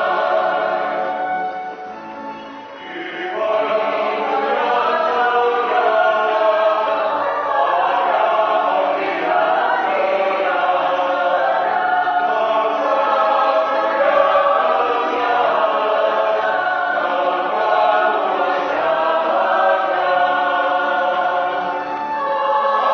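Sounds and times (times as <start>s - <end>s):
choir singing held notes: 0.0s - 22.9s.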